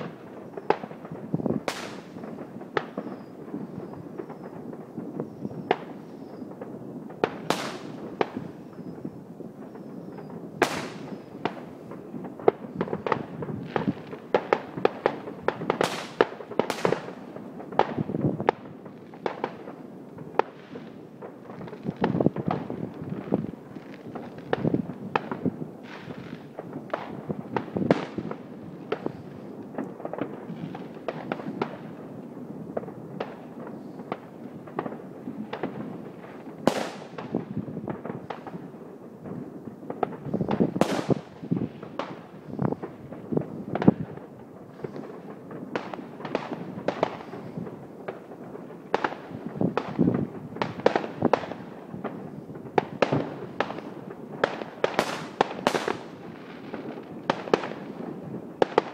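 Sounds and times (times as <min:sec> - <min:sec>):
fireworks bangs and crackle: 0:00.0 - 0:58.9.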